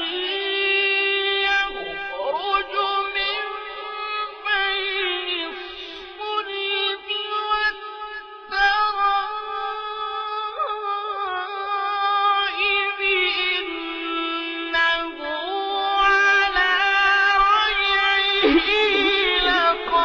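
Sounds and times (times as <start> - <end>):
high voice chanting: 0.0 - 20.0.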